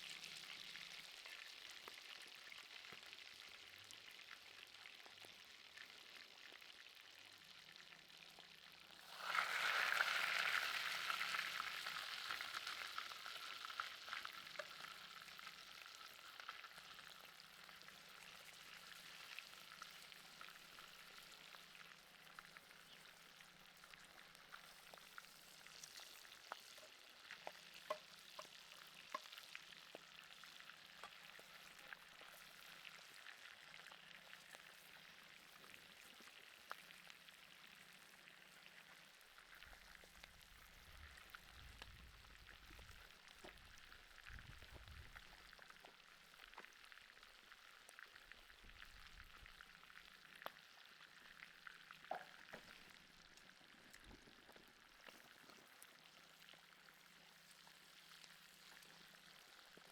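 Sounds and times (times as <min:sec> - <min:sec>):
crackles and pops: 0:00.0 - 0:59.9
steak sizzling over charcoal: 0:00.0 - 0:59.9.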